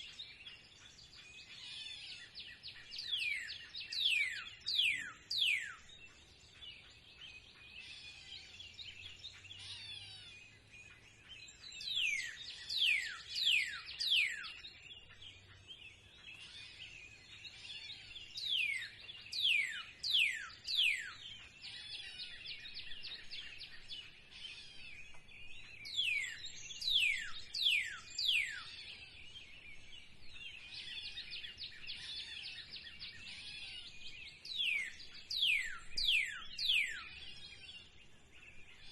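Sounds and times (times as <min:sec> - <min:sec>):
birds twittering: 0:00.0 - 0:38.9.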